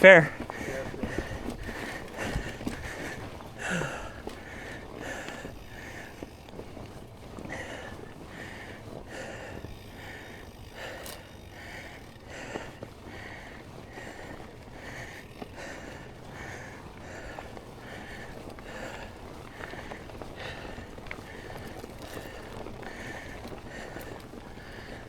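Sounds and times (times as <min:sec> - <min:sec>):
person breathing hard: 0:00.0 - 0:25.0.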